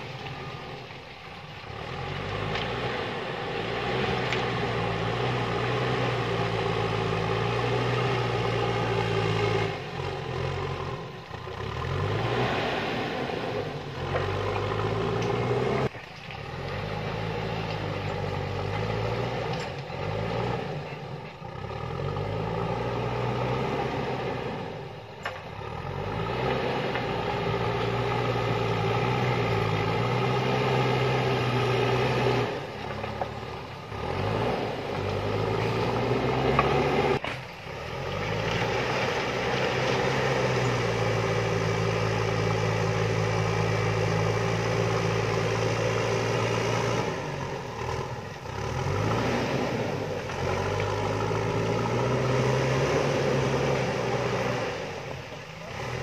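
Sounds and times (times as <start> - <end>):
diesel engine working under load: 0.0 - 56.0.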